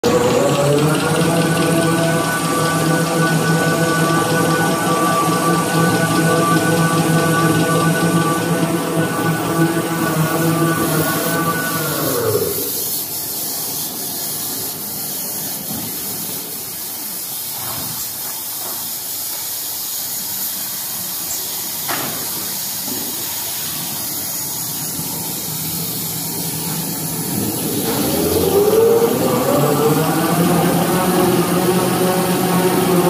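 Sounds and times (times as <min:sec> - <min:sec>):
factory machinery hissing: 0:00.0 - 0:33.0.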